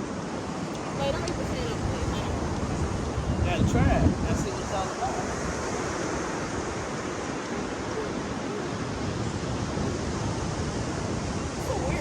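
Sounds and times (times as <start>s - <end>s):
ocean surf: 0.0s - 12.0s
wind rumbling on microphone: 0.0s - 12.0s.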